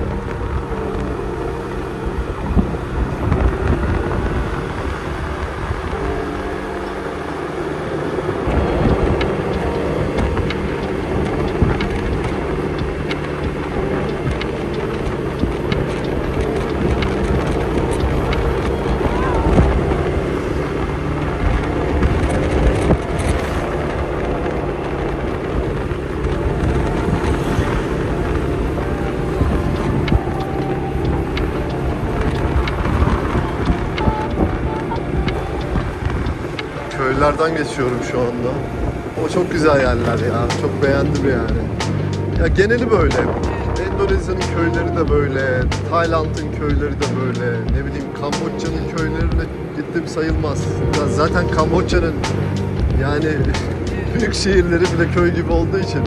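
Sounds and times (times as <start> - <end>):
motorbike engine running: 0.0 - 56.0
road noise: 0.0 - 56.0
wind buffeting microphone: 0.0 - 56.0.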